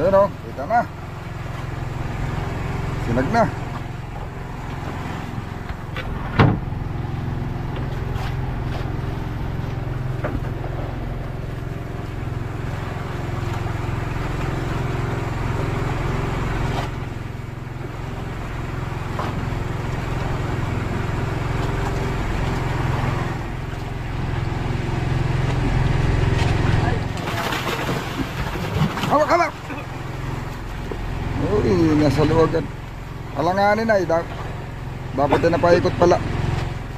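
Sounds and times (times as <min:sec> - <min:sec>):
boat engine running: 0:00.0 - 0:36.9.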